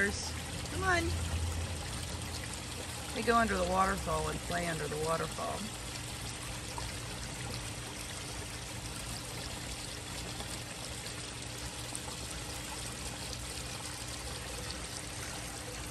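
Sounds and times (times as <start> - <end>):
waterfall pouring into pond: 0.0 - 15.9.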